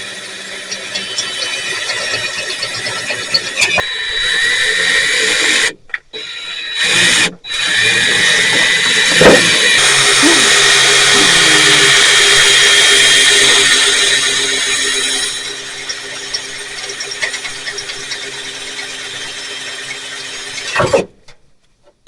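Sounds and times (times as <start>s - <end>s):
power drill boring sheet metal: 0.0s - 21.1s.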